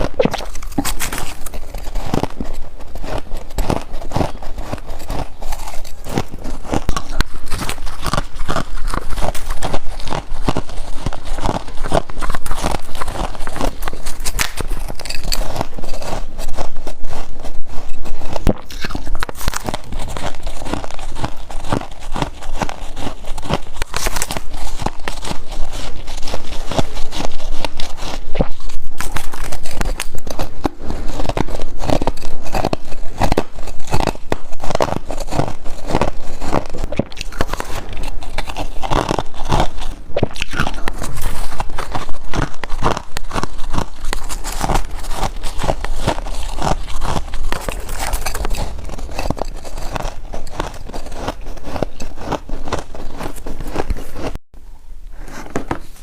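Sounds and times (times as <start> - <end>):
ice crunching while chewed: 0.0 - 54.4.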